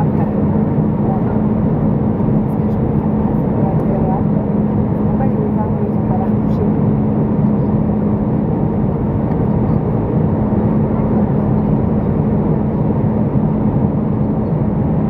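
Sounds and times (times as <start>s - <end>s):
constant low hum: 0.0s - 15.0s
jet engines rumbling: 0.0s - 15.0s.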